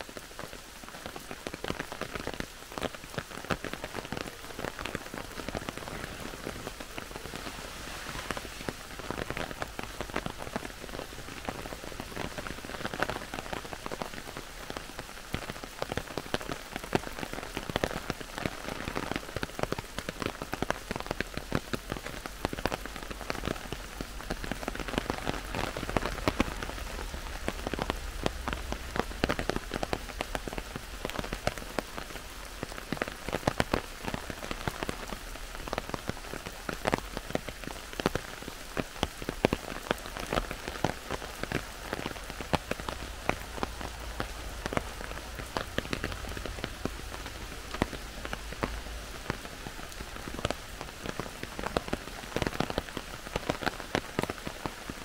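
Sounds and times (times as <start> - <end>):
close raindrop hits: 0.0 - 55.0
heavy rain hissing: 0.0 - 55.0.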